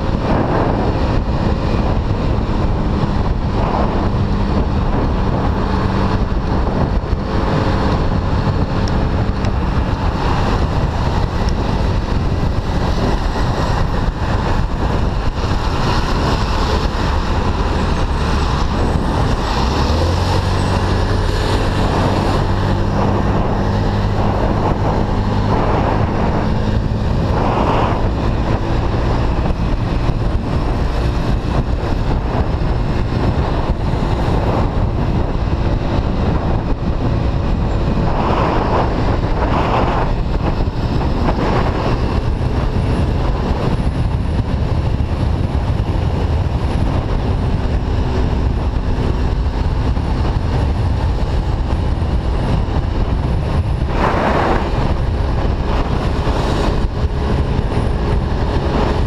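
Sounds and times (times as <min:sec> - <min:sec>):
road rumble: 0:00.0 - 0:59.0
scooter engine running: 0:00.0 - 0:59.0
wind rushing: 0:00.0 - 0:59.0.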